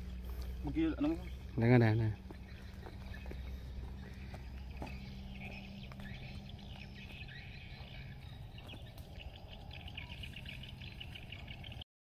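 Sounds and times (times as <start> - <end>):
small birds chirping: 0.0 - 11.8
steady low hum: 0.0 - 11.8.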